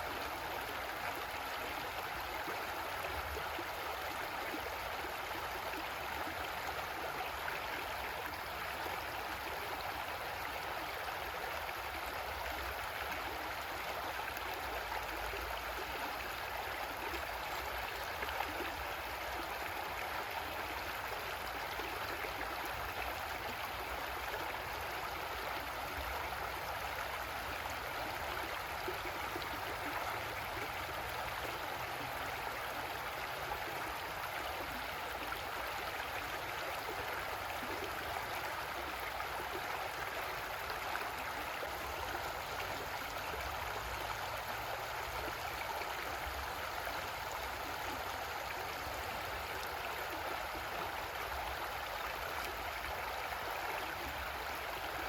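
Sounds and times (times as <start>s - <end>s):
creek water flowing over rocks: 0.0s - 55.0s.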